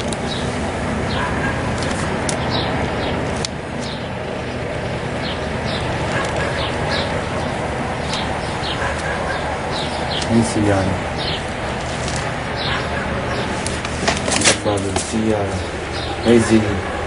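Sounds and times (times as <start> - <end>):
background rumble and hiss: 0.0 - 17.0
small birds chirping: 0.0 - 17.0.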